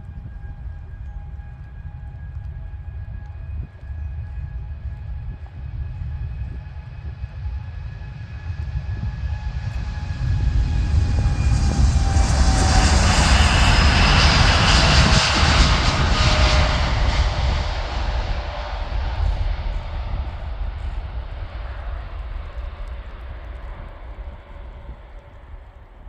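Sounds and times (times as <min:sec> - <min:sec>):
jet engines at takeoff thrust: 0:00.0 - 0:26.0.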